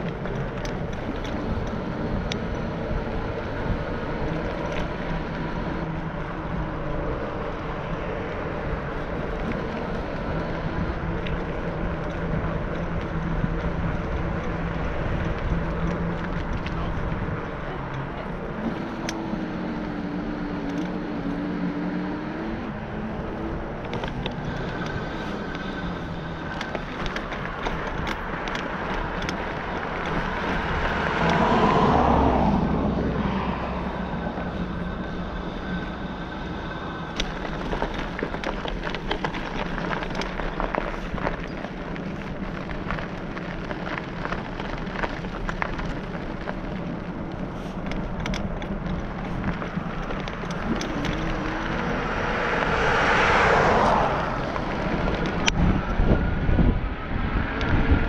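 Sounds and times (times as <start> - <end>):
tyre noise on paved path: 0.0 - 58.0
wind noise: 0.0 - 58.0.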